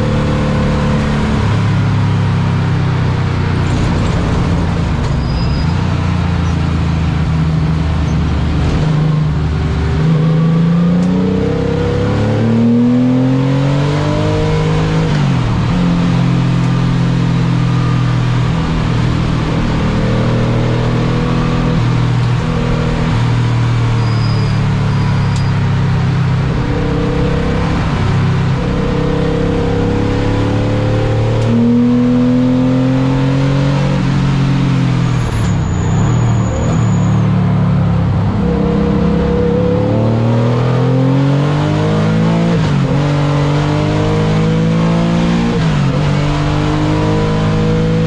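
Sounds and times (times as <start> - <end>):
wind and road noise: 0.0 - 48.0
car engine revving: 5.9 - 48.0.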